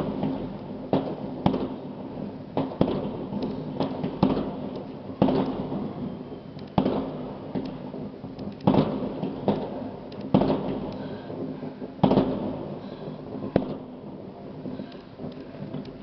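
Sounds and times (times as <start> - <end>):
fireworks bangs with rumbling echo: 0.0 - 16.0
fireworks crackles: 0.0 - 16.0.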